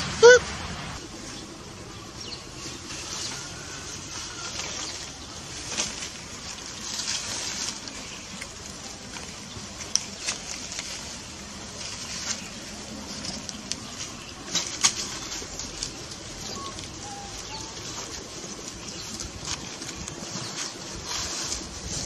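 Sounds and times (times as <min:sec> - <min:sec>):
steady outdoor hiss: 0:00.0 - 0:22.0
dry leaves crackling and rustling: 0:01.0 - 0:22.0.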